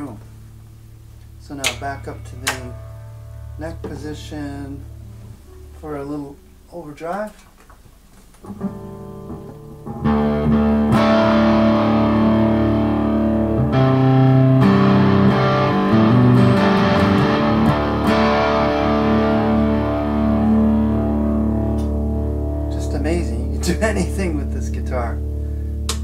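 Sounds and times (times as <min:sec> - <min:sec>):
overdriven electric guitar chords: 0:00.2 - 0:06.6, 0:08.4 - 0:26.0.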